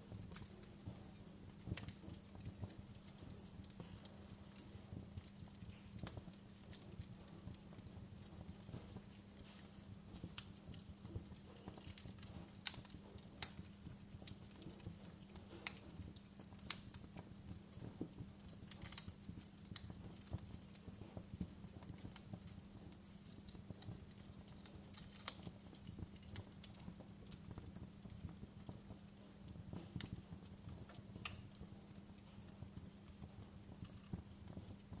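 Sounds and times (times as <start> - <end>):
fire crackling and popping: 0.0 - 35.0
steady low hum: 0.0 - 35.0.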